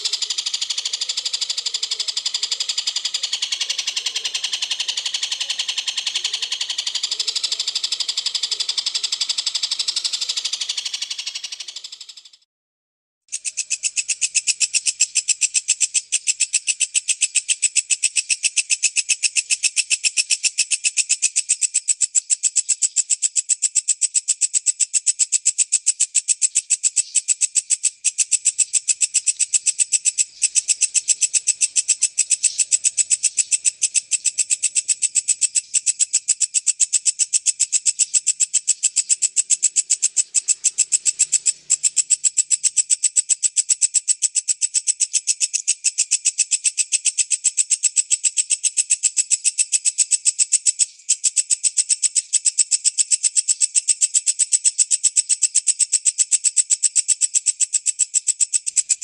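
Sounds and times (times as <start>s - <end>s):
bush cricket trilling: 0.0s - 12.4s, 13.3s - 59.0s.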